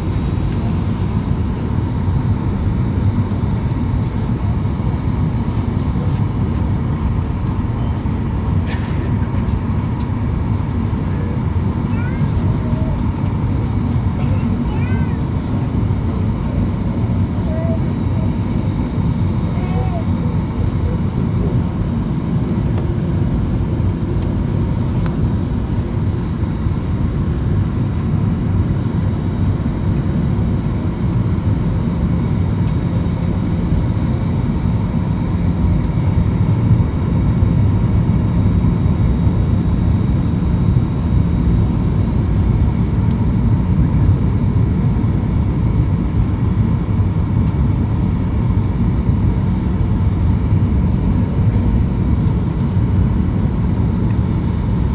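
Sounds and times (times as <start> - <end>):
faint engine whine: 0.0 - 54.9
low rumble of engines and air: 0.0 - 54.9.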